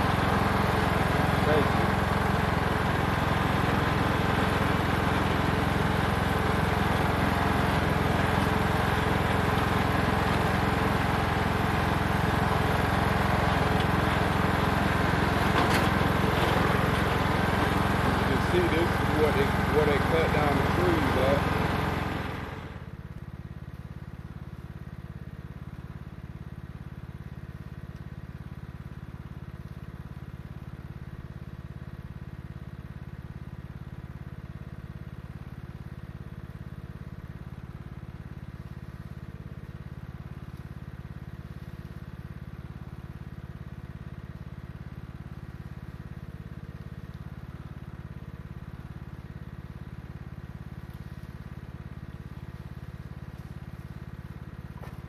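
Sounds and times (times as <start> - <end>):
lawn tractor engine idling: 0.0 - 55.0.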